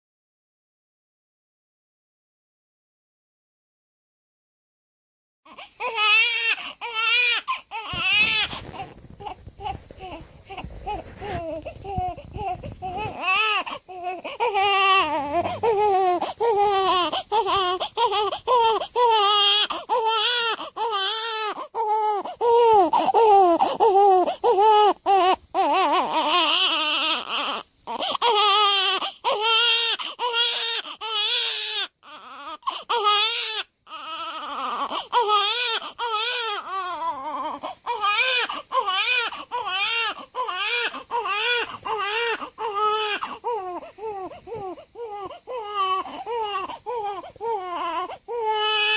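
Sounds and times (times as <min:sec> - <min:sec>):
newborn baby crying: 0:05.5 - 0:48.9.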